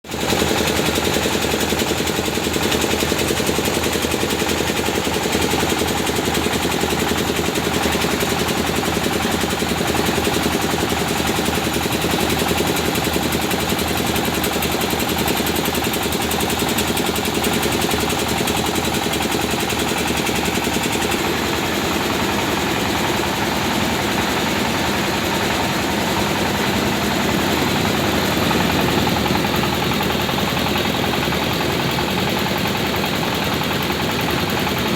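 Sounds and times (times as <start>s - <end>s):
rice husking machine engine running: 0.1s - 34.9s.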